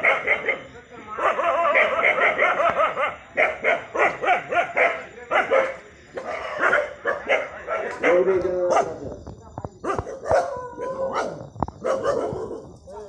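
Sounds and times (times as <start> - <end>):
dog barking: 0.0 - 9.0, 9.8 - 13.0.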